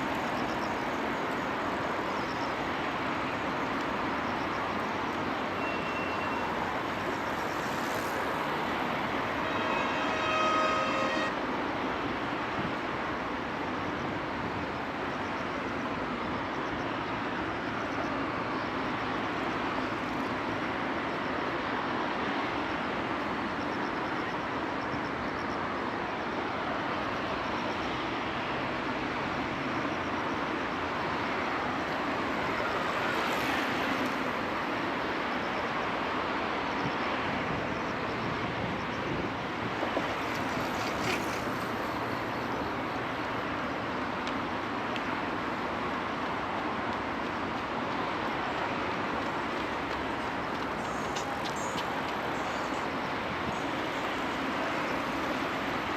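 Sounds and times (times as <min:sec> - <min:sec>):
city traffic hum: 0:00.0 - 0:55.9.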